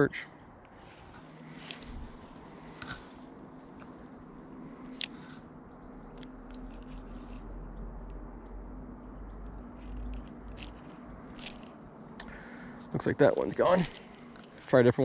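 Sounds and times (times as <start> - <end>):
low steady rumble: 0.4 - 15.0.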